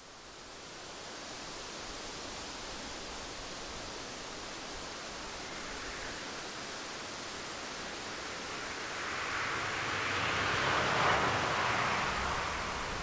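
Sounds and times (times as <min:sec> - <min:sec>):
steady rushing noise: 0:02.6 - 0:13.0.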